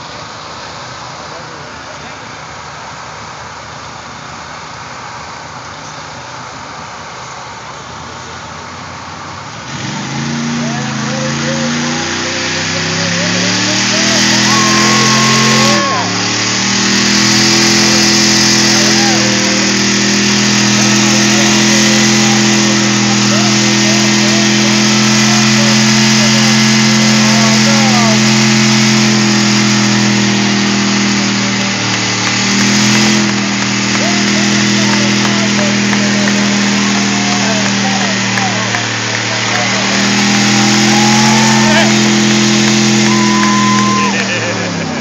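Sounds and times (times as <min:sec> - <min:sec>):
large vehicle engine running: 0:00.0 - 0:45.0.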